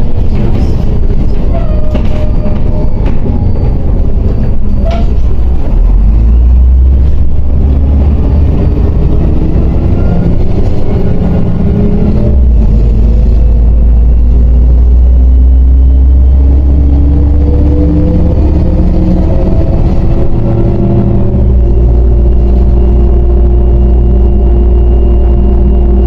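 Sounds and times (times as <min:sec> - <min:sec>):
bus diesel engine rumbling: 0:00.0 - 0:26.0.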